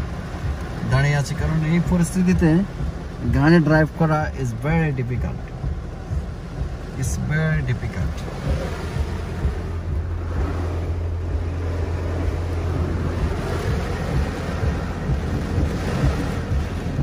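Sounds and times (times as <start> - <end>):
heavy rain drumming on car roof: 0.0 - 17.0
steady low hum: 0.0 - 17.0
wind gusts: 0.0 - 17.0.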